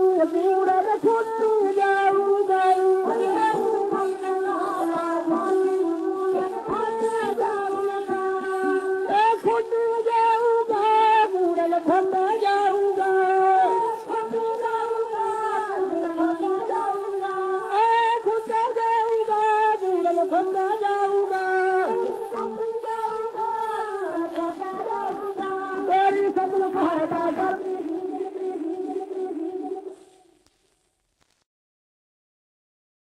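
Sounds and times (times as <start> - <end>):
religious song on old record: 0.0 - 31.5.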